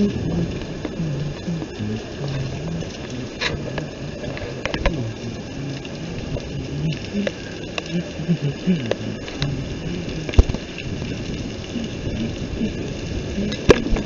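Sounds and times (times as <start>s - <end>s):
rain on wet pavement: 0.0s - 14.0s.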